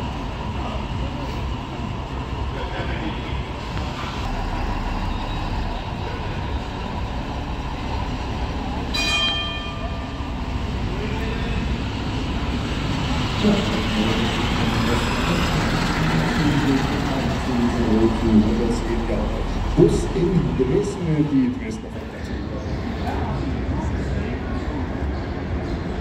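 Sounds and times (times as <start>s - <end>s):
bus engine rumbling past: 0.0s - 26.0s.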